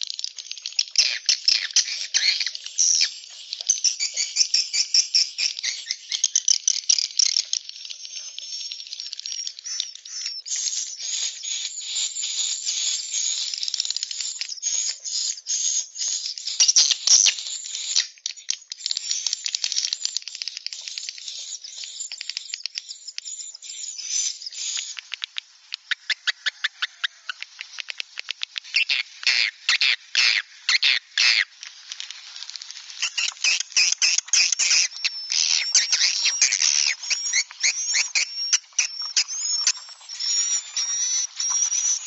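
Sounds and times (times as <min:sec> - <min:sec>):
bird chattering song: 0:00.2 - 0:31.5, 0:33.0 - 0:42.0.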